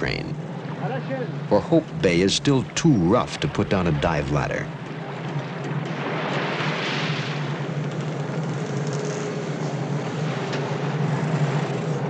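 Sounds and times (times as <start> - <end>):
rough sea: 0.0 - 12.0.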